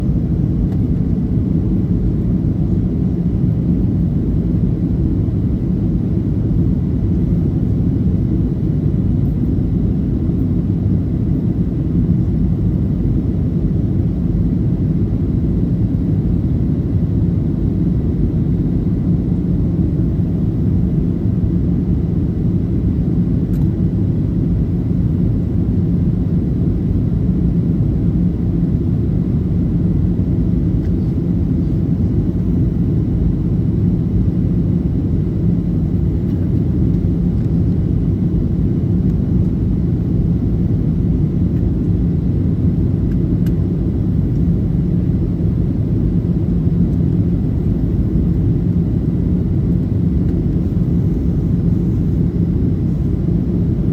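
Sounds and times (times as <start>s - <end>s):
aircraft cabin rumble: 0.0s - 53.9s
faint steady hum: 0.0s - 53.9s.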